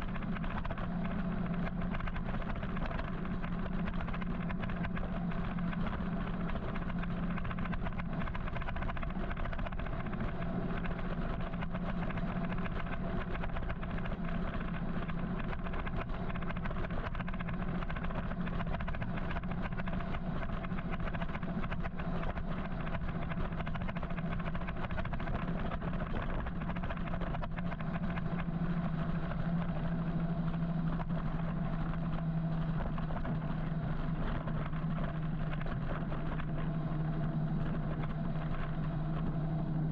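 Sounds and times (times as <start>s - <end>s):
road rumble: 0.0s - 39.9s
wind: 0.0s - 39.9s.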